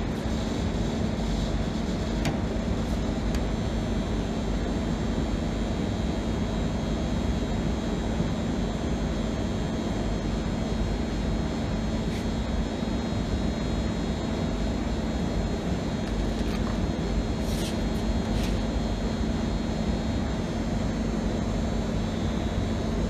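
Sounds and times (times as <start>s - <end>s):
faint high whine: 0.0s - 23.0s
mechanical drone with hum: 0.0s - 23.0s.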